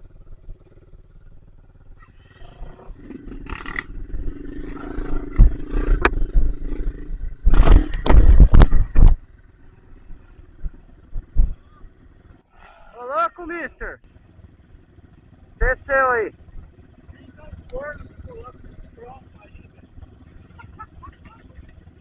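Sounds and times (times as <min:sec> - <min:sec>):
dirt bike engine revving: 0:00.0 - 0:12.4, 0:14.0 - 0:22.0.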